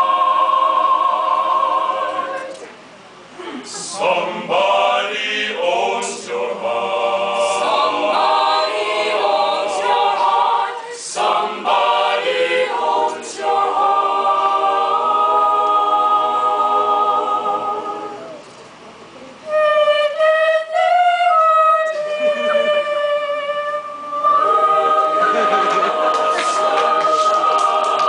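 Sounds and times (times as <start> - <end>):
choir singing a cappella: 0.0 - 2.7, 3.8 - 18.4, 19.5 - 28.0.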